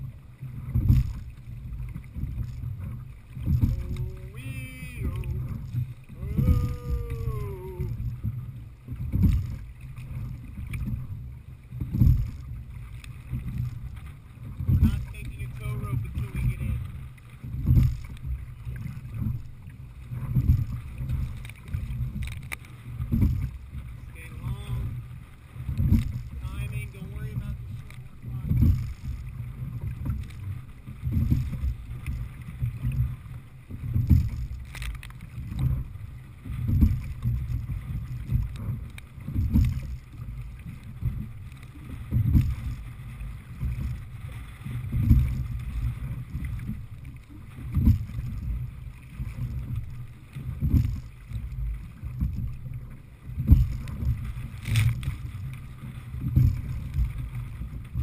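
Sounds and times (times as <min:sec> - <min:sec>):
oars clicking: 0:00.0 - 0:58.0
water rushing: 0:00.0 - 0:58.0
wind buffeting microphone: 0:00.0 - 0:58.0.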